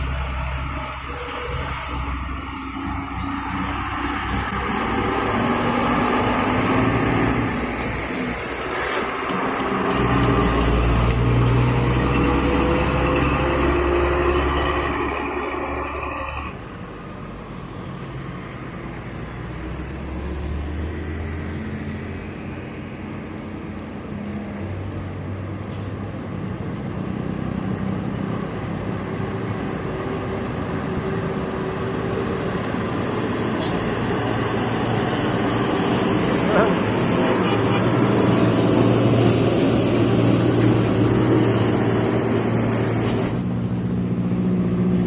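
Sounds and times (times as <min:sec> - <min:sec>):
traffic: 0:00.0 - 0:45.0
truck engines passing: 0:00.0 - 0:45.0.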